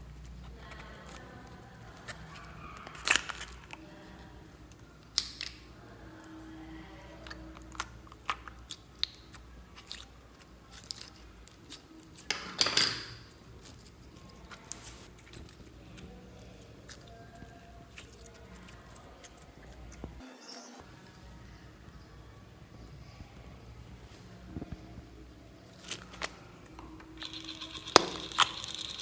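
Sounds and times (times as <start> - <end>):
slime squishing: 0.0 - 12.3, 13.3 - 20.2, 24.0 - 29.0.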